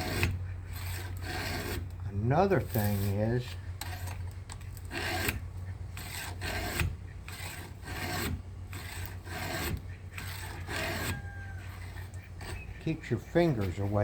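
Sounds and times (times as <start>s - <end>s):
files rasping on chainsaw chain: 0.0s - 14.0s.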